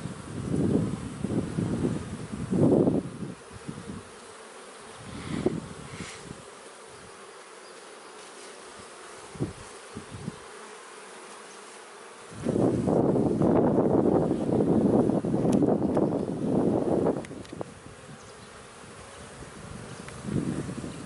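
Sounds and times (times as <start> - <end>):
bees humming at hive: 0.0 - 21.0
single bee buzzing past: 0.0 - 21.0.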